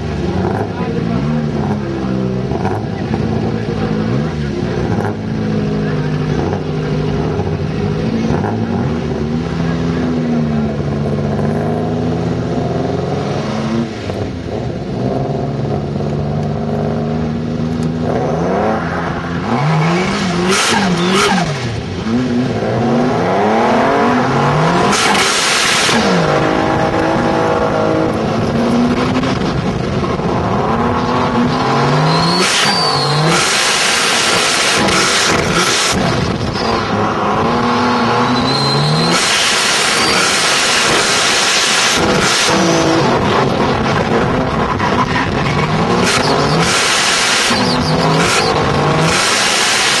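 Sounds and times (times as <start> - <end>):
turbocharged engine revving: 0.0 - 50.0.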